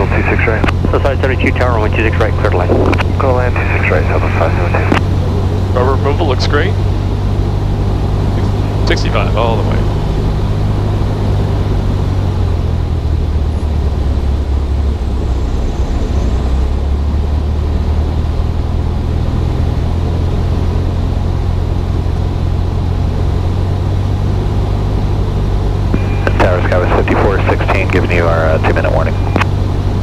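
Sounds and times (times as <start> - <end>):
aircraft engine and propeller droning: 0.0 - 30.0.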